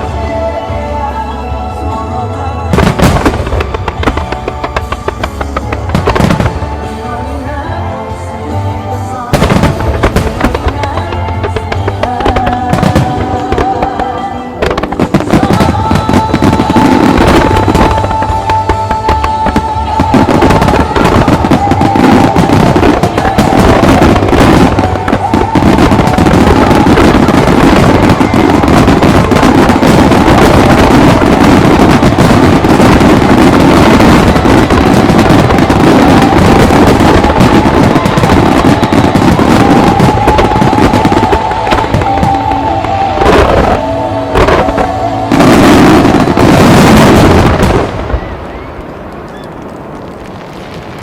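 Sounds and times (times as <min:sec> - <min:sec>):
music playing: 0:00.0 - 0:48.1
fireworks bursting and crackling: 0:02.6 - 0:51.0.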